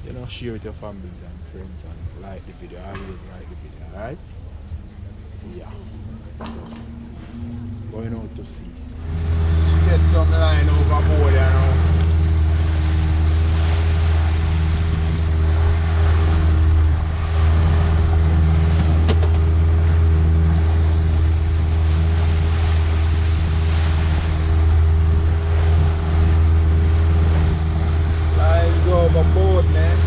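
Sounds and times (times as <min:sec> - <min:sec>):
motorboat engine drone: 0:00.0 - 0:30.0
water rushing past hull: 0:03.0 - 0:30.0.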